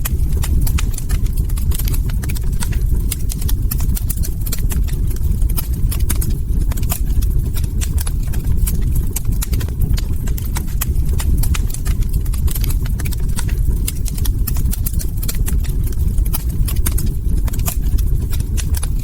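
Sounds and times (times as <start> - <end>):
log fire popping and snapping: 0.0 - 19.0
low rumble of burning: 0.0 - 19.0.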